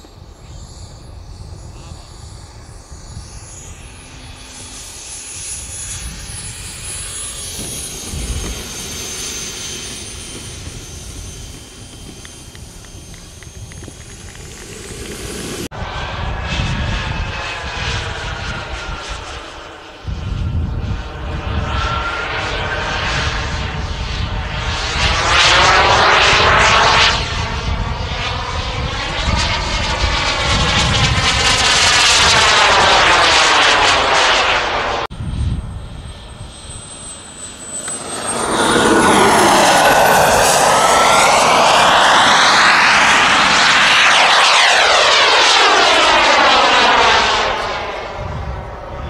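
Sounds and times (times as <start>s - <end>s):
high whine gliding upward: 0.0s - 49.0s
model jet turbine engines passing: 0.0s - 49.0s.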